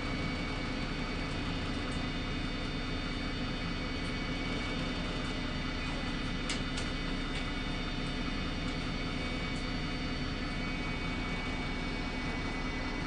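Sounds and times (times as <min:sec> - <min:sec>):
low bus engine drone: 0:00.0 - 0:13.0.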